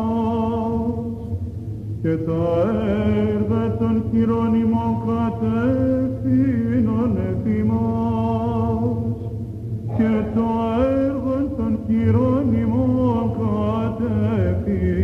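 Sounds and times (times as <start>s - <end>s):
low sung drone: 0.0s - 15.0s
man chanting slow melismatic line: 2.0s - 15.0s.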